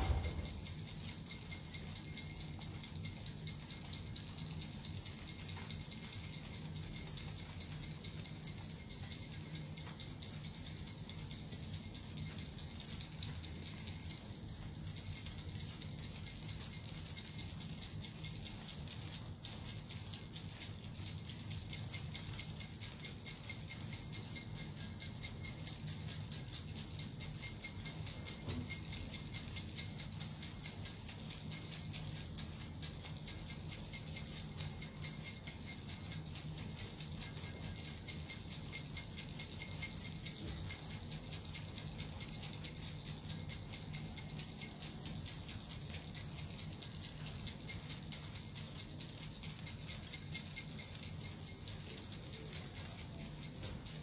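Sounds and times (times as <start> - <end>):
small bells jingling: 0.0 - 54.0.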